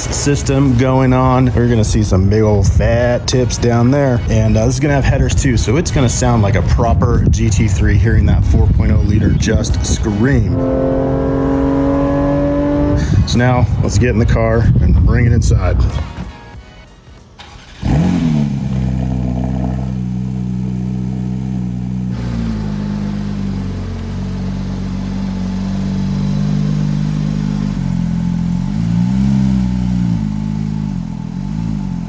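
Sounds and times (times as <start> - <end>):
car engine starting and idling: 0.0 - 32.0.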